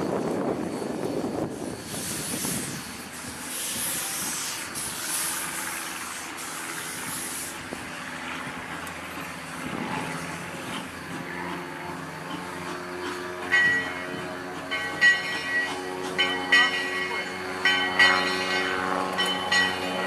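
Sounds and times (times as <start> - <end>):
distant steam locomotive running: 0.0 - 20.0
steam locomotive hissing steam: 0.0 - 20.0.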